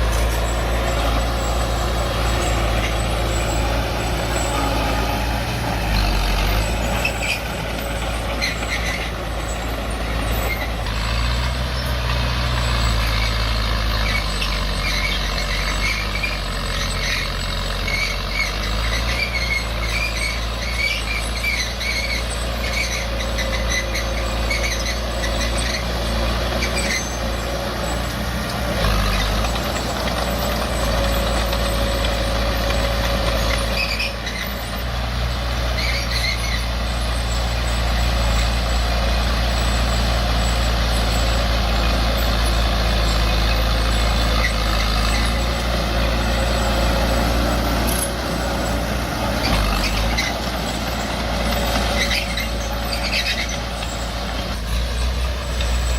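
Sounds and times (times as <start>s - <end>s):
diesel machinery running: 0.0s - 55.9s
high-pitched squeaks: 0.0s - 55.9s.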